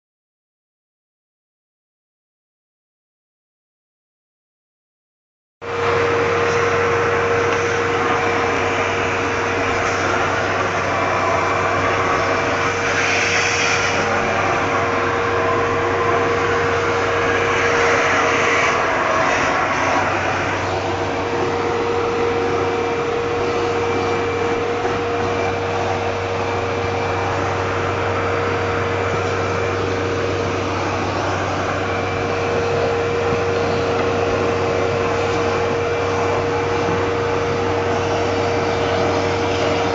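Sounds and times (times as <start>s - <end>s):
vacuum cleaner running: 5.6s - 39.9s.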